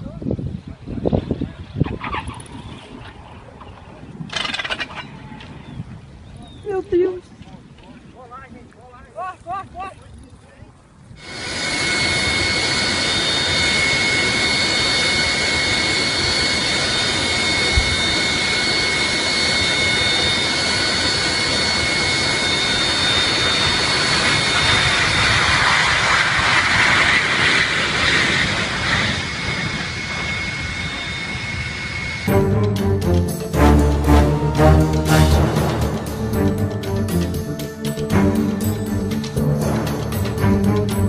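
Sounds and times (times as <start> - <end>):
jet engines whining and roaring: 0.2 - 6.3, 10.8 - 41.0.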